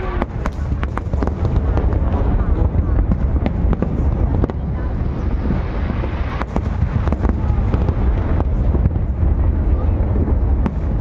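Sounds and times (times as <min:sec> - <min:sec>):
fireworks cracking and crackling: 0:00.0 - 0:11.0
low rumble of firework bursts: 0:00.0 - 0:11.0.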